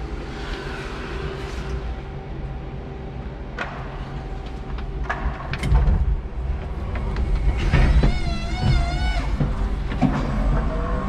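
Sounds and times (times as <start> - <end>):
forklift hum and rumble: 0.0 - 11.0
heavy low rumbles: 0.0 - 11.0.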